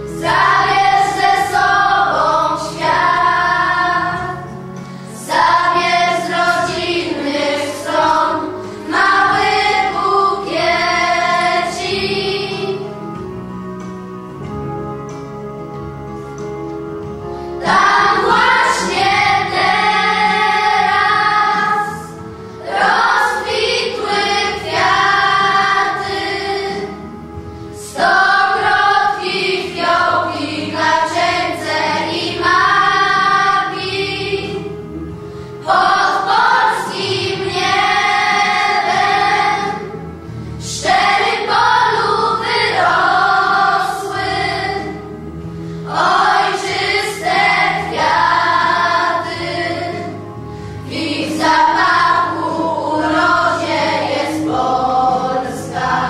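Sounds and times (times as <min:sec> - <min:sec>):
children's choir singing: 0:00.0 - 0:15.9, 0:17.1 - 0:56.0.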